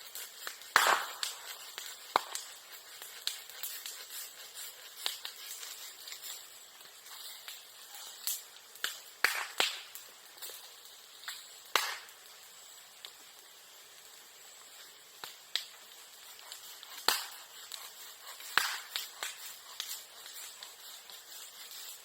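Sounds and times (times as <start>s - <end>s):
bonfire crackling: 0.0s - 22.0s
sharp pops of burning bamboo: 0.0s - 22.0s.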